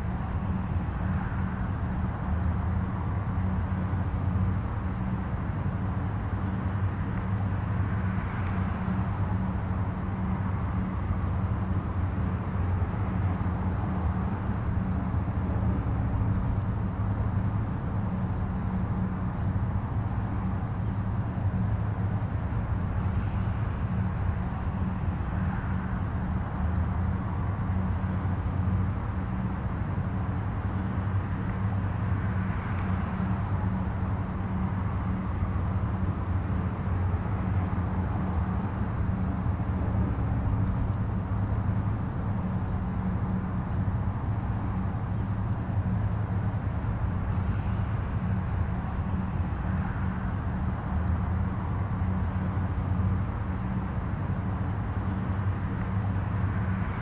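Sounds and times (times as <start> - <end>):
distant highway traffic rumble: 0.0 - 57.0.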